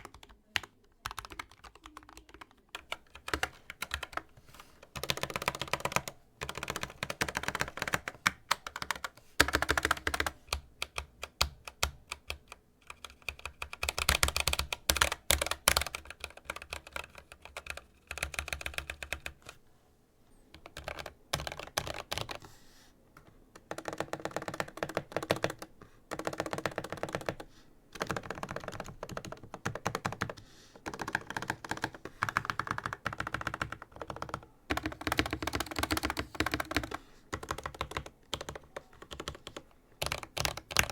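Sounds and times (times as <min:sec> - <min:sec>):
mechanical keyboard typing: 0:00.0 - 0:19.6, 0:20.6 - 0:22.4, 0:23.6 - 0:40.9.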